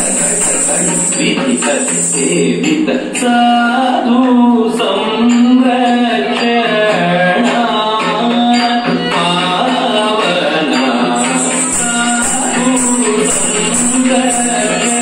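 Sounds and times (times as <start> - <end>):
percussion: 0.0 - 15.0
person singing a melody: 0.0 - 15.0.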